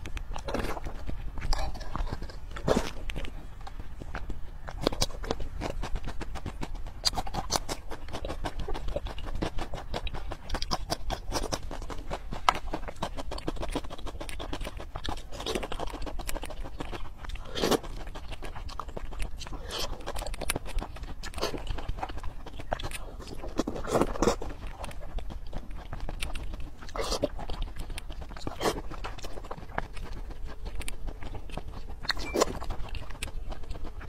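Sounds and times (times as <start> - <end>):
wet chewing and lip smacking: 0.0 - 34.0.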